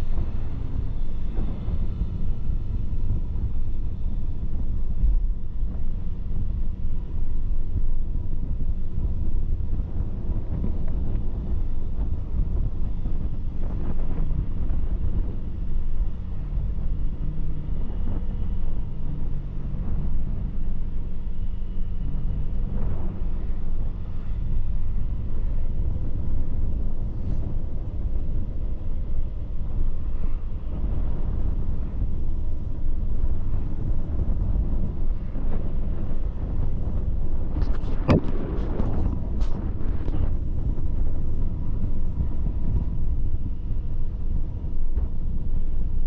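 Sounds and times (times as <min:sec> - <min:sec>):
vehicle engine rumbling: 0:00.0 - 0:46.0
wind buffeting microphone: 0:00.0 - 0:46.0.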